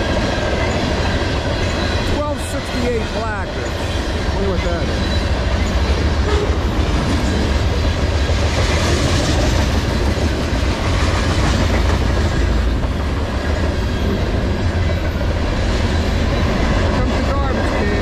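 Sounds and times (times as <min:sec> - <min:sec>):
steel wheels rolling on rails: 0:00.0 - 0:18.0.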